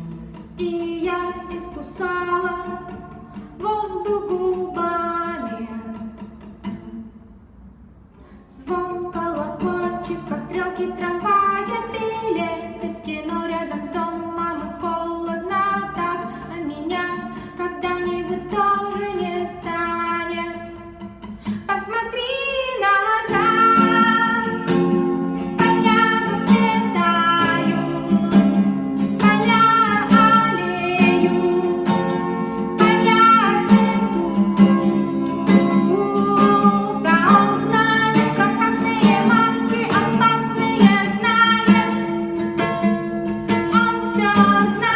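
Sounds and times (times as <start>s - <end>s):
strummed acoustic guitar: 0.0s - 44.9s
woman singing: 0.6s - 6.2s, 8.5s - 44.9s.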